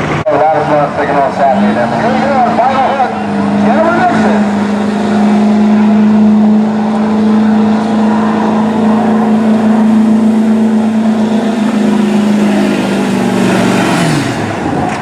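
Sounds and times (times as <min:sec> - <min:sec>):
diesel truck engine running hard: 0:00.0 - 0:15.0.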